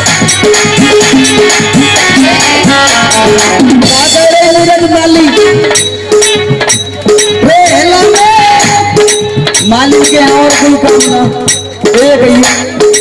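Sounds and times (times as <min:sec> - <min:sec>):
rattling tambourine beat: 0:00.0 - 0:04.6, 0:05.4 - 0:13.0
percussion strikes: 0:00.0 - 0:13.0.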